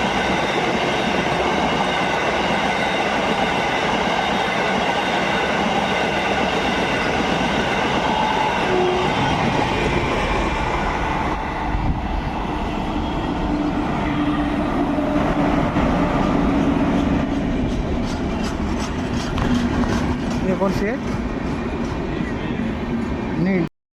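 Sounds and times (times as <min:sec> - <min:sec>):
train rumbling on track: 0:00.0 - 0:23.7.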